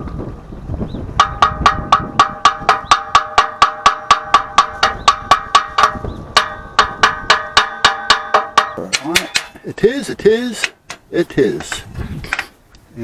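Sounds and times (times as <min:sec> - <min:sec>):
metal tapping on steel: 0:01.2 - 0:09.9, 0:10.5 - 0:12.6.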